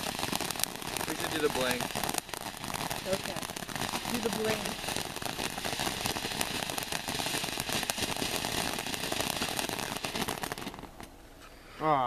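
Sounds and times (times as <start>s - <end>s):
firework fountain hissing and crackling: 0.0s - 11.3s.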